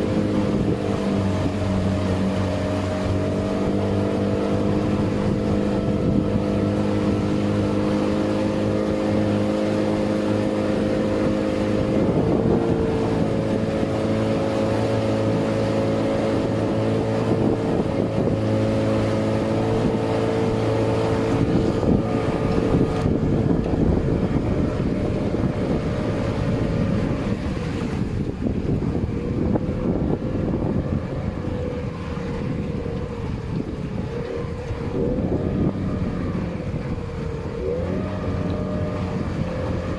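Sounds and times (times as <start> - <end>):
motorboat engine running: 0.0 - 39.9
wind noise on microphone: 0.0 - 39.9.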